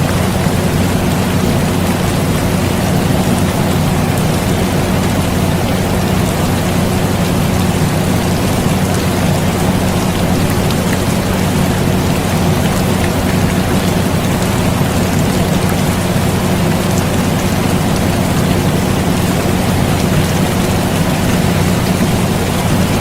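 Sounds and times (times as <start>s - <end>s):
air conditioner hum: 0.0s - 23.0s
rain hiss: 0.0s - 23.0s.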